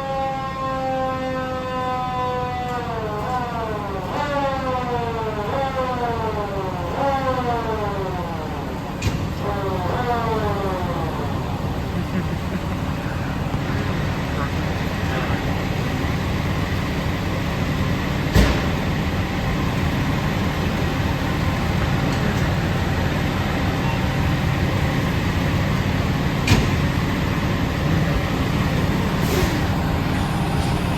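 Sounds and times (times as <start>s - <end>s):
diesel engine idling: 3.4s - 30.9s.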